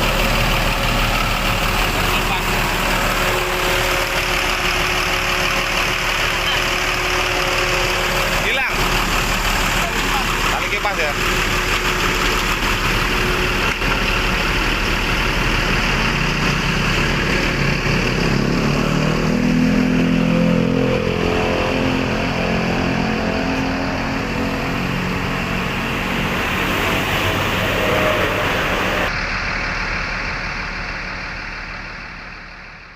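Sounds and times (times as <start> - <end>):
bus engine running: 0.0 - 32.9
road and wind noise: 0.0 - 32.9.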